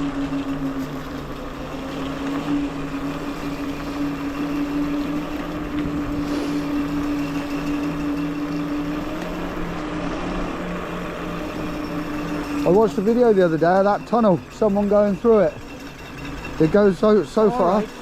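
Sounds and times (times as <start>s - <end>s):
brake disc rubbing rhythmically: 0.0s - 18.0s
scooter motor whine: 0.0s - 18.0s.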